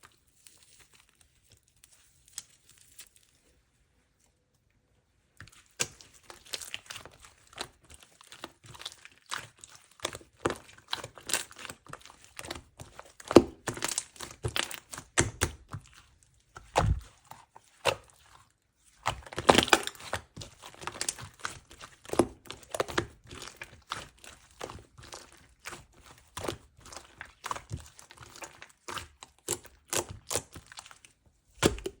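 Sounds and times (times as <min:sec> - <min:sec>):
slime squished by hand: 0:05.4 - 0:32.0.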